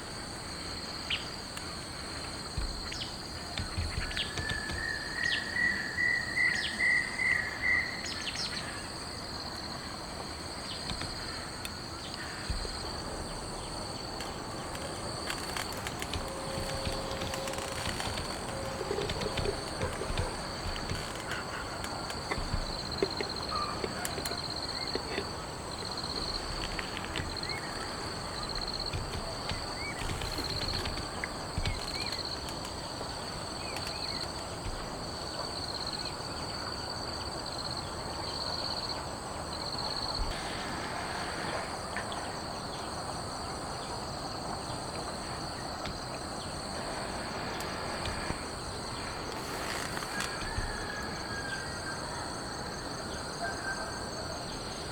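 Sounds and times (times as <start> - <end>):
crickets trilling: 0.0 - 54.9
dense background hiss: 0.0 - 54.9.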